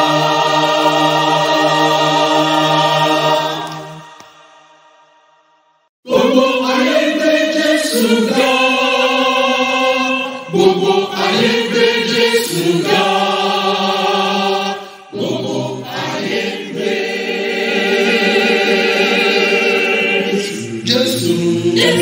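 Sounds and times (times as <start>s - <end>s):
mixed choir singing held chords: 0.0s - 5.3s, 6.1s - 22.0s.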